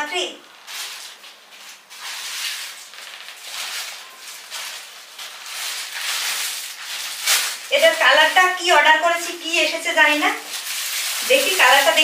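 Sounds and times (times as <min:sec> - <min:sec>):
plastic wrapping crinkling: 0:00.2 - 0:12.0.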